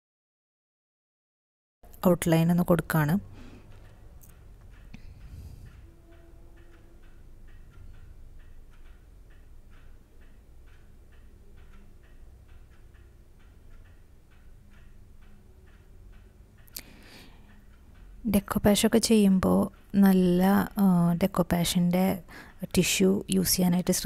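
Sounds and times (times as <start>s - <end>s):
clock ticking: 1.9s - 24.0s
sharp clock click: 2.2s - 24.0s.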